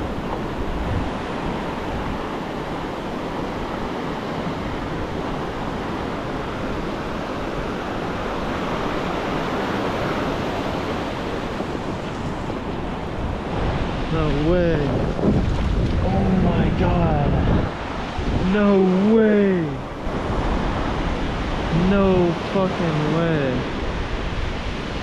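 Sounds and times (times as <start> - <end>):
ocean surf on beach: 0.0 - 25.0.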